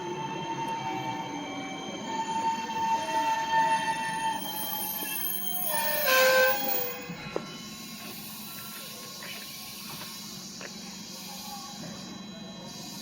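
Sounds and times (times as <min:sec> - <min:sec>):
train wheels squealing: 0:00.0 - 0:13.0.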